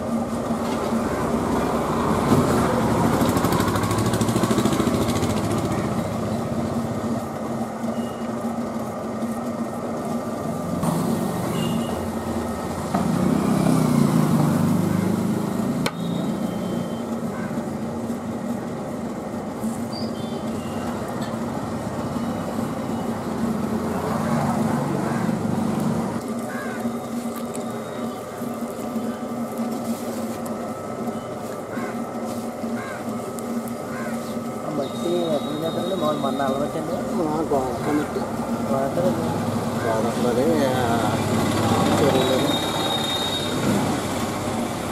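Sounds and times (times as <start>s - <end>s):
potter's wheel motor humming: 0.0s - 44.9s.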